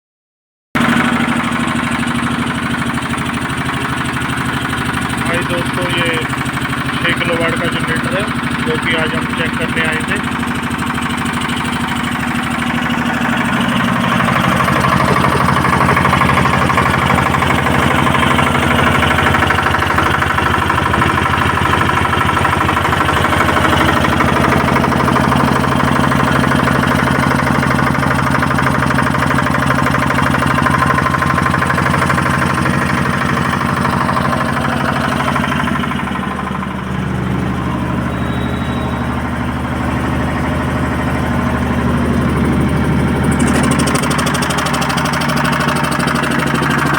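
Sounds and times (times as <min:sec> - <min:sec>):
generator engine running: 0:00.8 - 0:46.9.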